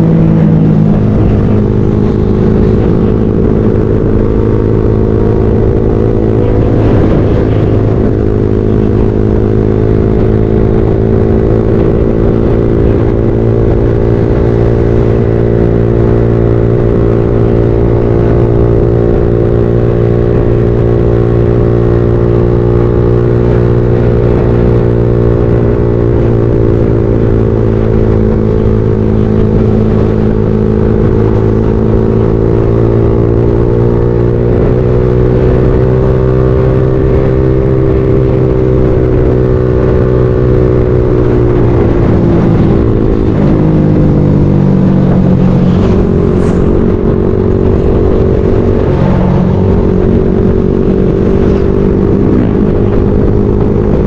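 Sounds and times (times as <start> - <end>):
motorcycle engine running: 0.0 - 54.0
road and wind rumble: 0.0 - 54.0.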